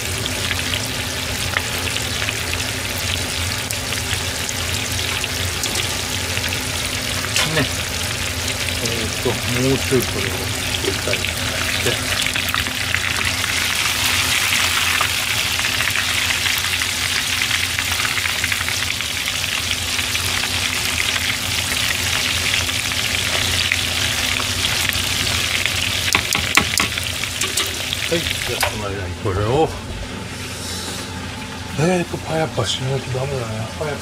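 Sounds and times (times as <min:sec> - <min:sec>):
deep-frying crackling sizzle: 0:00.0 - 0:34.0.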